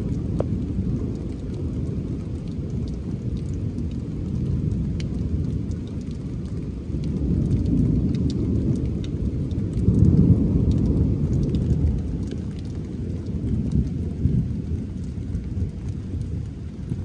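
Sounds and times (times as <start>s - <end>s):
rolling thunder: 0.0s - 17.0s
steady rain: 0.0s - 17.0s.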